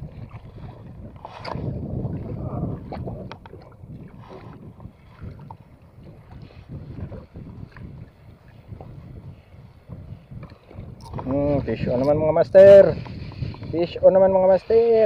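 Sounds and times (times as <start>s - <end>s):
water slapping against boat hull: 0.0s - 13.9s
wind buffeting microphone: 0.0s - 15.0s.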